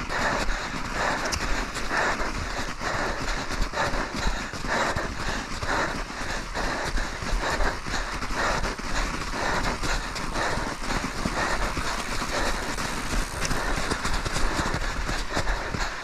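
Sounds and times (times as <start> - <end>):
bike clicks and rattles: 0.0 - 5.7, 6.3 - 16.0
bike tyres crunching snow: 0.0 - 16.0.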